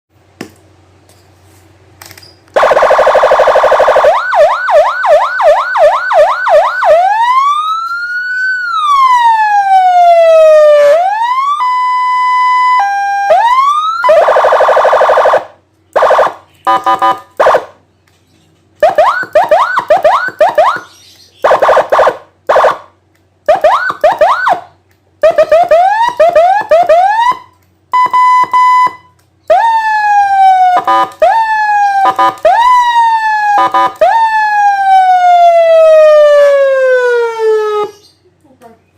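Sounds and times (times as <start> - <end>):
electronic siren cycling tones: 2.6 - 17.8, 18.8 - 22.9, 23.5 - 38.1.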